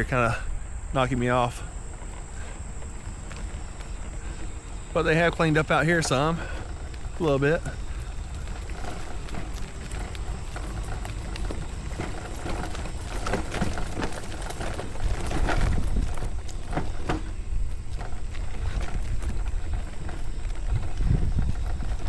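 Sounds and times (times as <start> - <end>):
wheelchair rolling on bumpy ground: 0.0 - 22.0.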